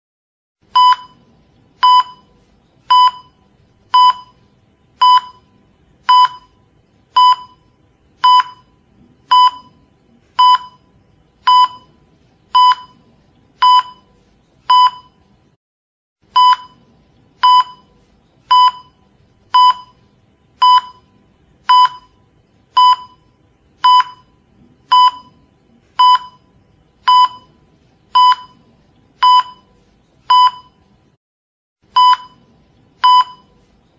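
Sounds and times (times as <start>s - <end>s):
heart monitor beeping: 0.7s - 15.2s, 16.3s - 16.8s, 17.4s - 20.0s, 20.6s - 30.9s, 31.9s - 33.6s.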